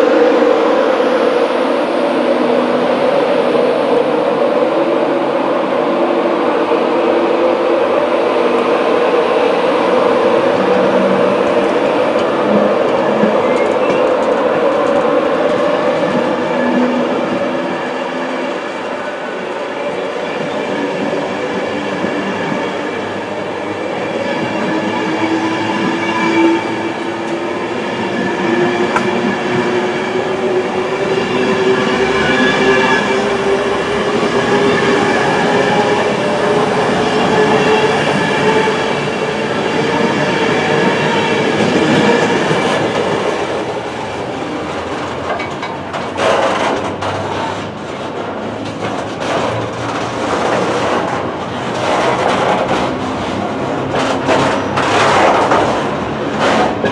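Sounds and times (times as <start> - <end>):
passenger train passing: 0.0 - 56.9.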